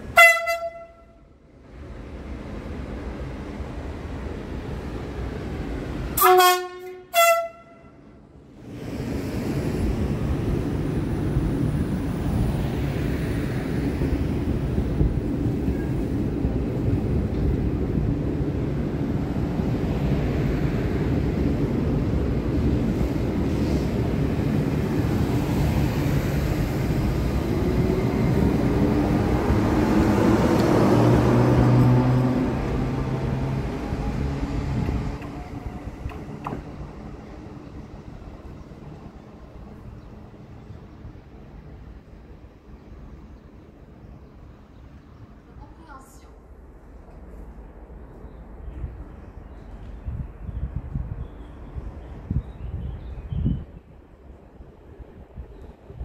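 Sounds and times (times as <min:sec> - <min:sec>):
train wheel-on-rail noise: 0:00.0 - 0:56.0.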